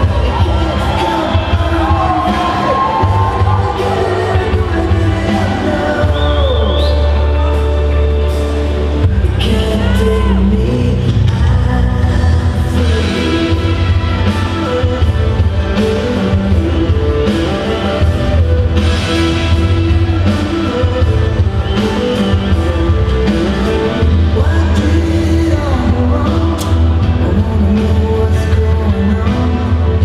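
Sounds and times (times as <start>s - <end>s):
rock music with singing: 0.0s - 30.0s.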